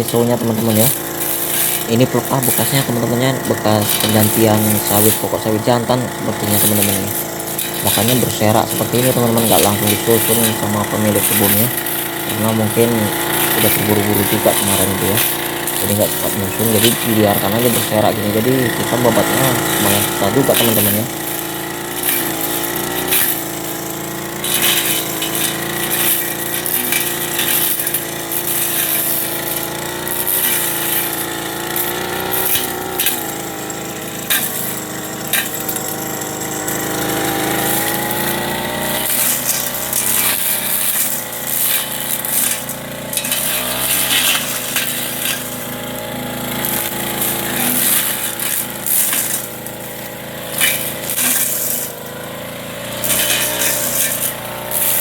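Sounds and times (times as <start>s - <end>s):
brush cutter engine revving: 0.0s - 55.0s
blade striking debris: 0.7s - 3.2s, 6.4s - 46.0s, 46.6s - 52.0s, 52.9s - 55.0s.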